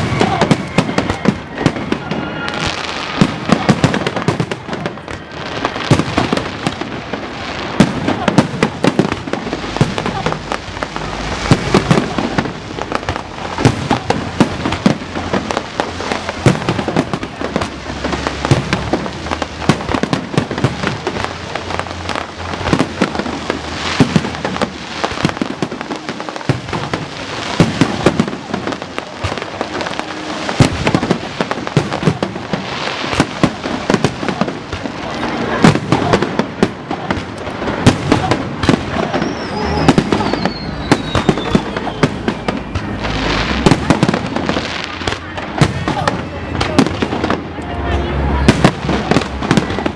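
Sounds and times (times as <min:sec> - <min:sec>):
fireworks bangs and crackling: 0:00.0 - 0:49.9.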